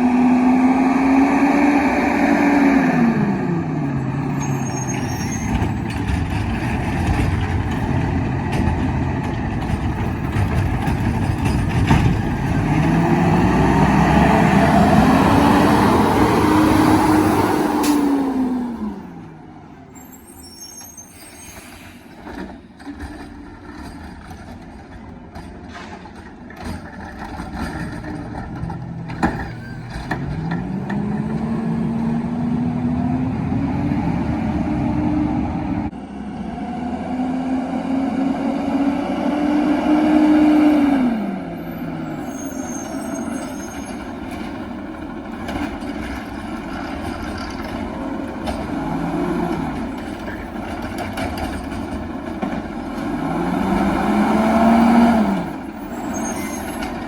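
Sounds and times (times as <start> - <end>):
garbage truck engine revving: 0.0 - 19.9, 26.0 - 57.0.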